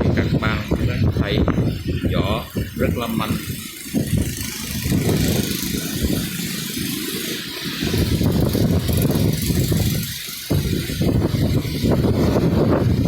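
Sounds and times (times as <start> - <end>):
heavy low rumble: 0.0 - 13.0
rain hissing: 0.0 - 13.0.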